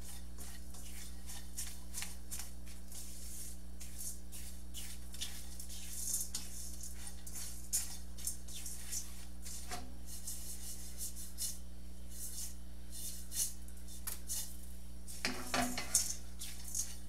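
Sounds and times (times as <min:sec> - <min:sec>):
spatula scraping breadcrumbs in skillet: 0:00.0 - 0:17.0.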